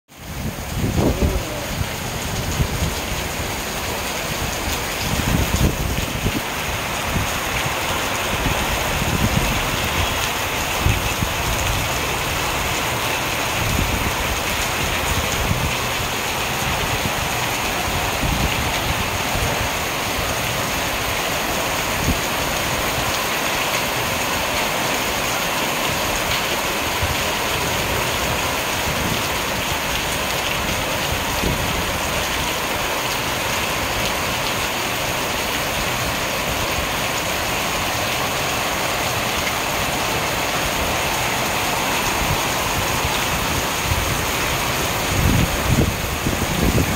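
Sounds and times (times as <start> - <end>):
rain on corrugated roof: 0.1 - 46.9
rain splashing on pavement: 0.1 - 46.9.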